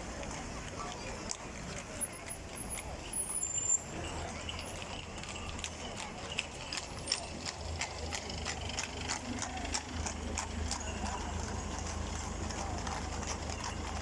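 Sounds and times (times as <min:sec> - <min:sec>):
horse hooves clip-clopping on pavement: 0:00.0 - 0:14.0.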